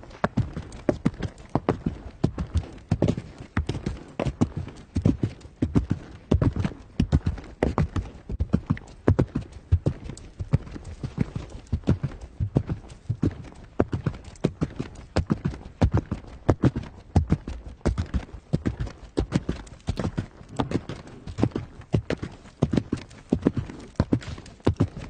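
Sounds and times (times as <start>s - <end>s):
horse hooves galloping: 0.0s - 25.0s.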